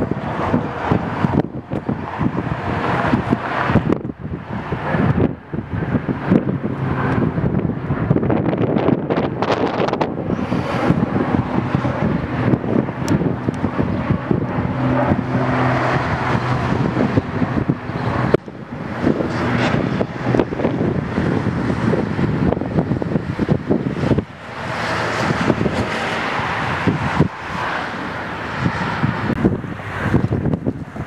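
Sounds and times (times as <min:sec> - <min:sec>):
turboprop aircraft drone: 0:00.0 - 0:31.0
wind buffeting microphone: 0:00.0 - 0:31.0.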